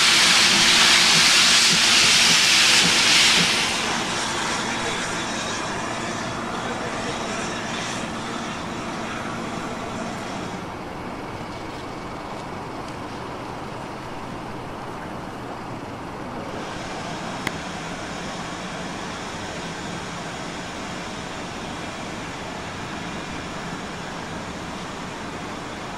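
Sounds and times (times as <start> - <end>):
steam locomotive hissing: 0.0 - 11.4, 15.6 - 25.9
locomotive low rumble: 0.0 - 25.9.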